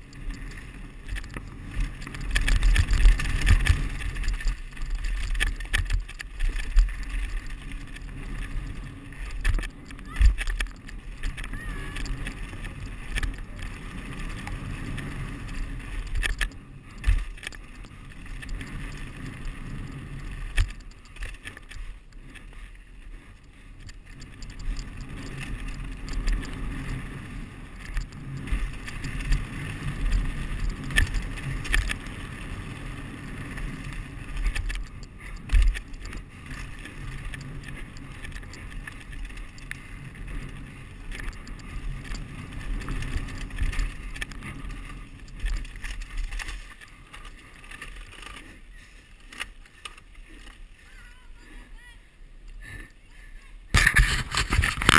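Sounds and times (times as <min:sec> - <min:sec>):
bike tyre rumble and rattle: 0:00.0 - 0:54.9.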